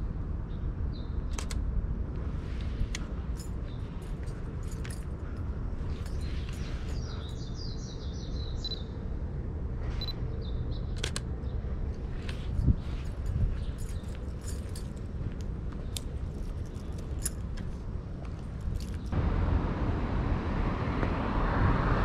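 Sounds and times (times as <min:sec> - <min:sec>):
low city hum: 0:00.0 - 0:22.0.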